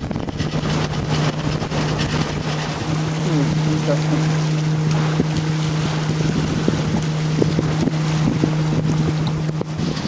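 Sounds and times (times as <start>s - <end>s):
water rushing past boat: 0.0s - 10.0s
wind buffeting microphone: 0.0s - 10.0s.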